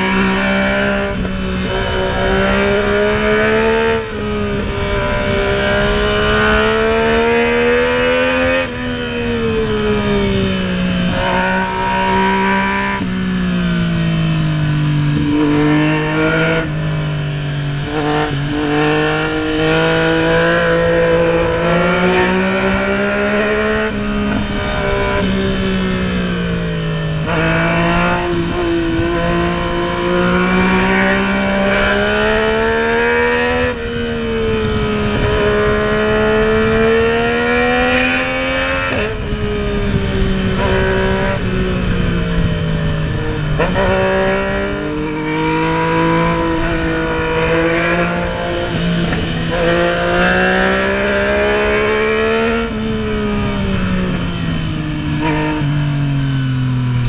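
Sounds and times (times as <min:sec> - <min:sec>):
motorcycle engine revving: 0:00.0 - 0:57.0
wind rush: 0:00.0 - 0:57.0.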